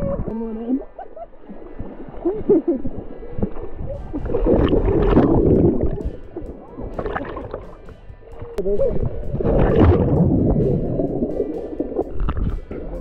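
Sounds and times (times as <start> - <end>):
lake water splashing: 0.0 - 13.0.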